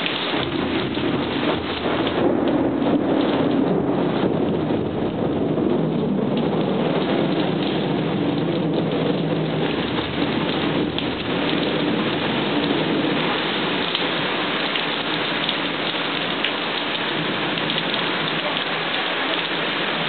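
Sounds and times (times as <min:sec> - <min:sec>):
low rumble of thunder: 0:00.0 - 0:20.0
steady rain pouring: 0:00.0 - 0:20.0.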